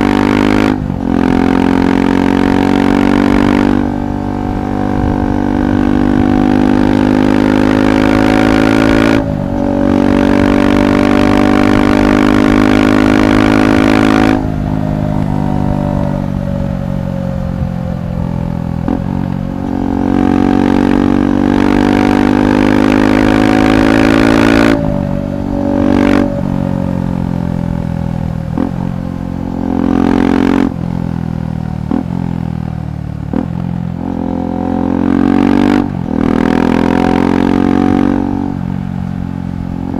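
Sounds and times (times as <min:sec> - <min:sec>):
exhaust cracks: 0:00.0 - 0:34.2
motorcycle engine while riding: 0:00.0 - 0:39.9.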